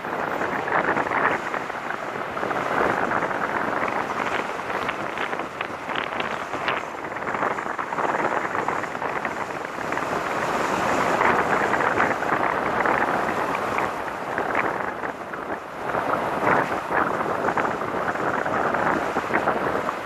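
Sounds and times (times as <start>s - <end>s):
car road noise: 0.0s - 20.0s
wind buffeting microphone: 0.0s - 20.0s.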